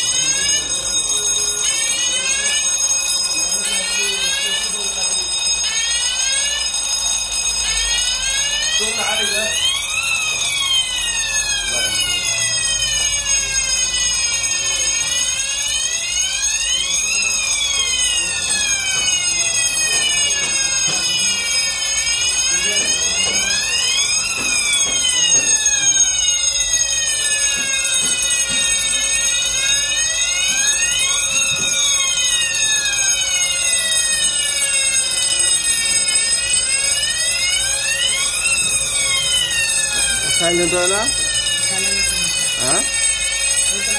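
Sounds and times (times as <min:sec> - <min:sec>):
fire alarm sirens wailing: 0:00.0 - 0:43.9
steady high-pitched tones: 0:00.0 - 0:43.9.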